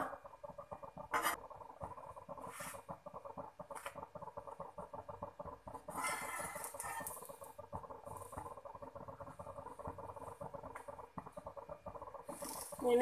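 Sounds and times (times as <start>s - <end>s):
crepe sizzling on hot pan: 0.0s - 13.0s.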